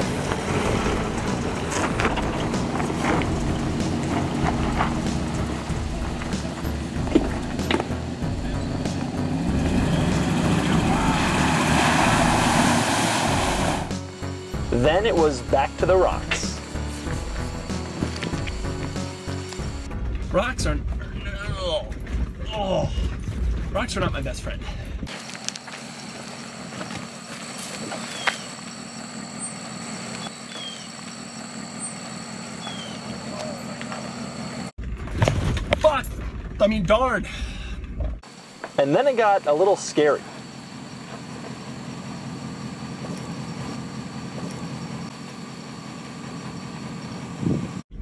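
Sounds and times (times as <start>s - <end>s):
truck engine running low: 0.0s - 23.9s, 24.8s - 38.8s, 39.4s - 48.0s.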